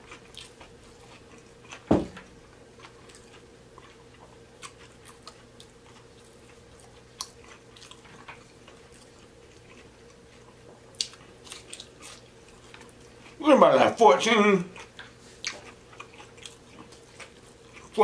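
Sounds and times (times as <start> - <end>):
chewing with soft crunches: 0.0 - 13.4, 14.6 - 18.0.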